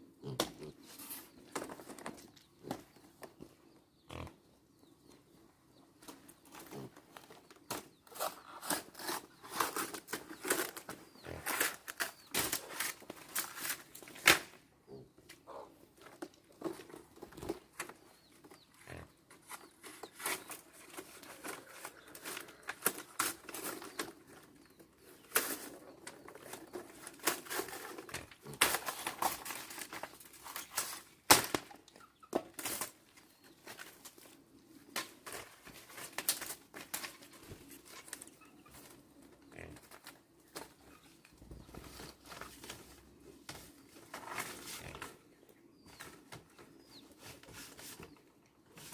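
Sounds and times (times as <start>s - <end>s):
rustling and crinkling: 0.2s - 3.6s, 6.0s - 48.9s.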